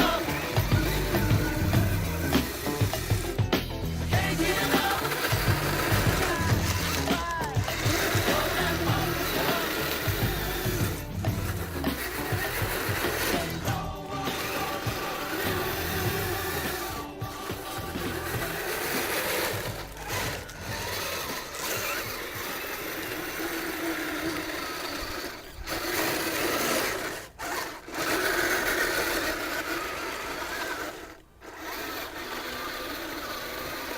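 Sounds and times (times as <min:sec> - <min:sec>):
electric motor and gearbox whirring: 0:00.0 - 0:33.9.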